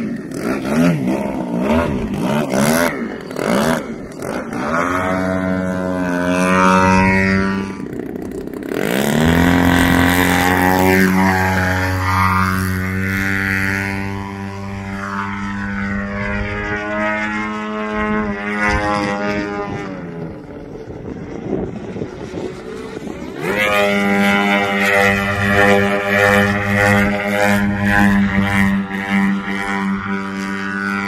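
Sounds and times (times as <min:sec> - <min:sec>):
model plane engine drone: 0:00.0 - 0:31.0.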